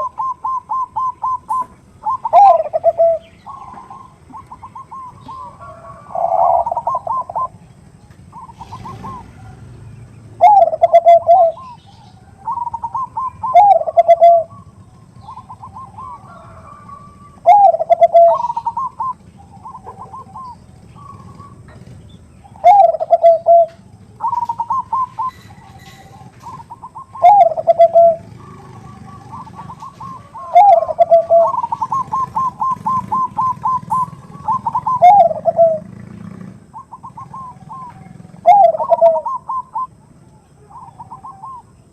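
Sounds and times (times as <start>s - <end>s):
doves cooing: 0.0s - 41.9s.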